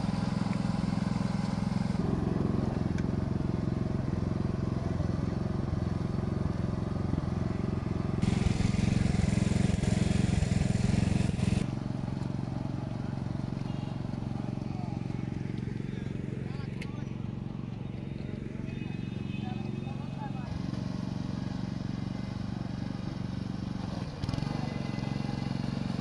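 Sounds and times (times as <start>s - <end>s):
rice transplanter engine running: 0.0s - 26.0s.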